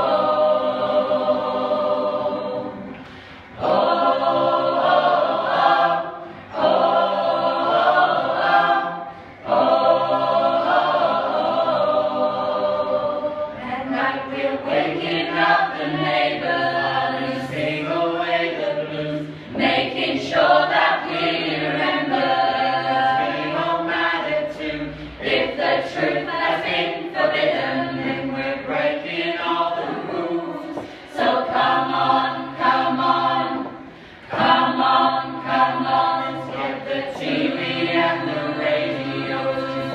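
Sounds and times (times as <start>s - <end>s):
a cappella choir singing: 0.0s - 39.9s.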